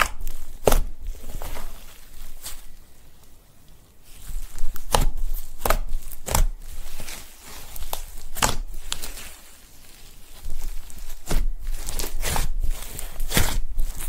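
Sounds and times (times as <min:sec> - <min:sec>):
slime popping and crackling: 0:00.0 - 0:02.8, 0:04.0 - 0:14.0.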